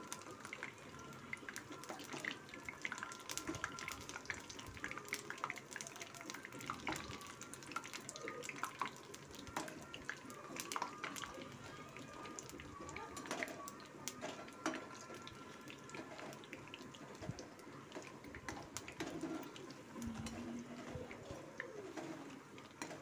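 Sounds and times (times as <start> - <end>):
batter deep-frying in oil: 0.0 - 23.0.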